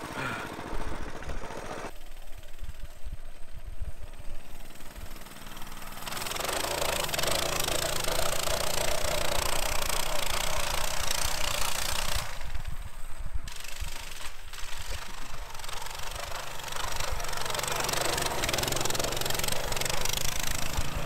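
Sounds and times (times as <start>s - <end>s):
pit bike engine running: 0.0s - 21.0s.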